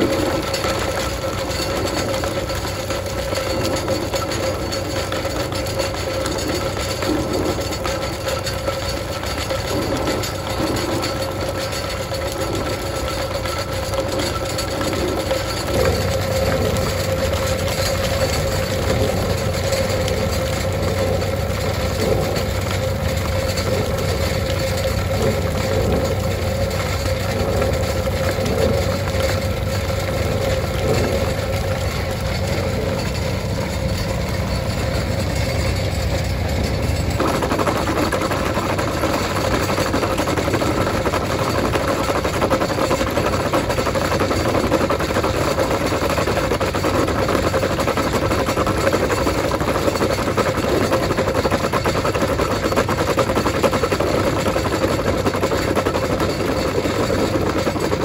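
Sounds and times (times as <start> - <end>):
drill boring into rock: 0.0 - 58.0.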